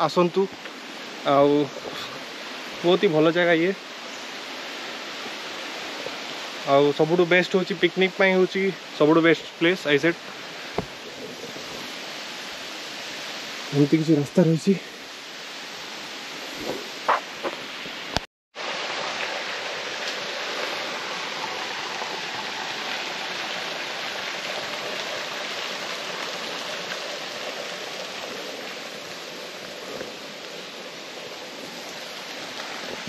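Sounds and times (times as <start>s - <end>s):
stream running: 0.0s - 33.0s.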